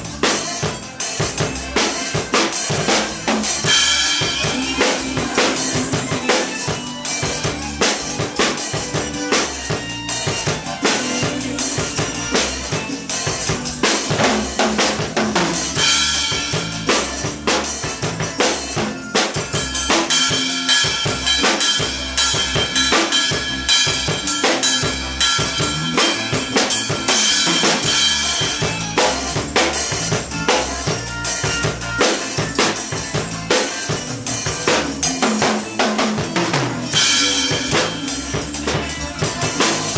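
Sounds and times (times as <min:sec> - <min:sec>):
drum kit playing a groove: 0:00.0 - 0:39.9.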